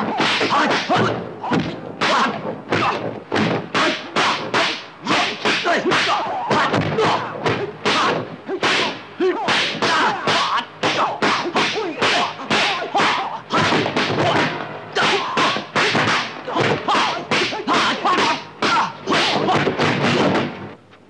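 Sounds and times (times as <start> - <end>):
fighters shouting: 0.0 - 3.0, 3.7 - 20.2
punch and kick impacts: 0.0 - 20.6.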